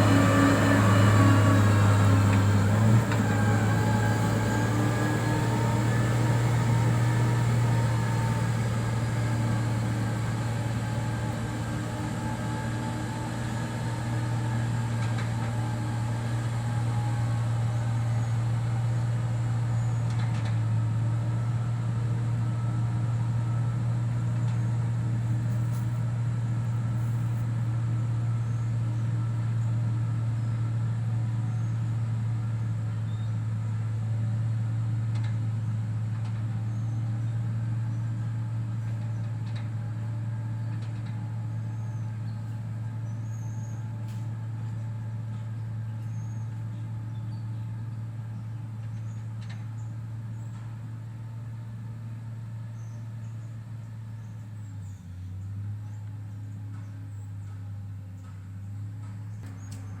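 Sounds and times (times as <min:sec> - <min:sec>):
diesel engine droning: 0:00.0 - 1:00.0.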